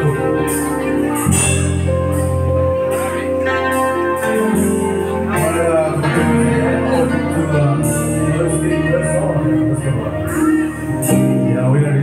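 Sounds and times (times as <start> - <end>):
bass notes: 0.0 - 12.0
sustained keyboard chords: 0.0 - 12.0.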